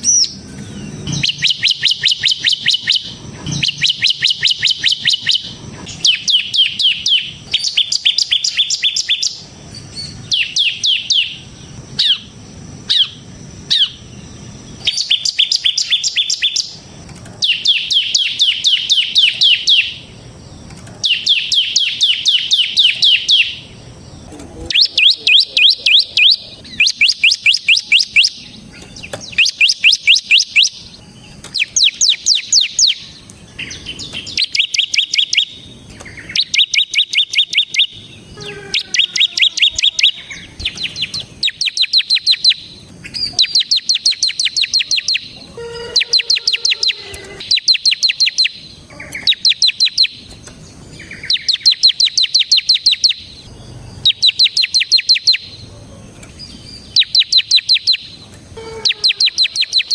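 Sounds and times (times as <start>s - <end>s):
bird singing rapid rattling notes: 0.0s - 59.9s.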